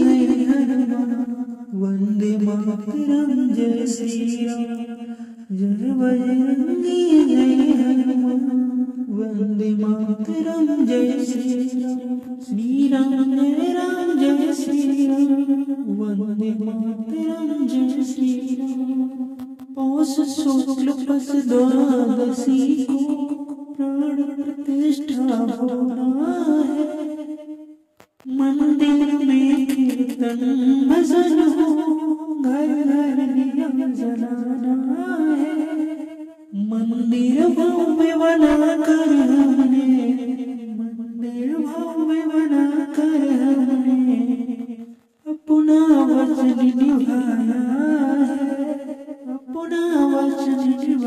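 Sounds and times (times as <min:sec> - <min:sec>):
person singing devotional song: 0:00.0 - 0:51.0.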